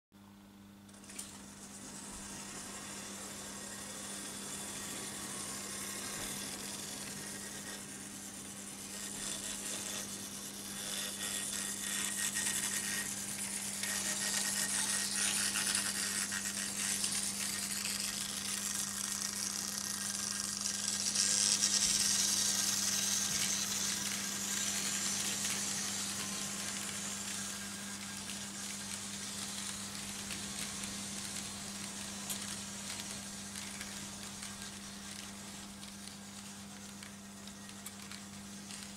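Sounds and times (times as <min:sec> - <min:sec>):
model train wheels rattling: 0:01.0 - 0:38.9.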